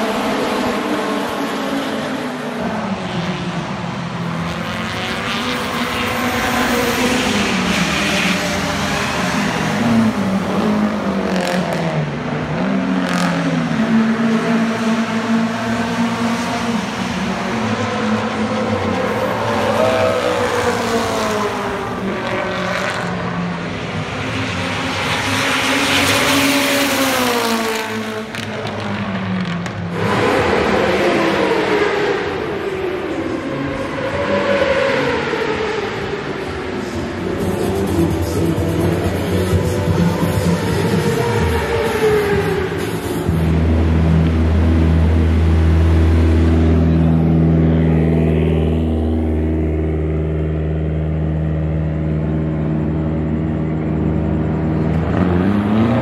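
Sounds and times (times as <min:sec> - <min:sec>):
race car engine passing: 0:00.1 - 0:56.0.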